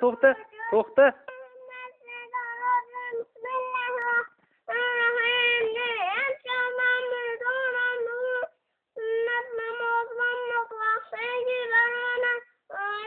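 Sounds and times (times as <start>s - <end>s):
child chanting sing-song: 0.0s - 13.0s.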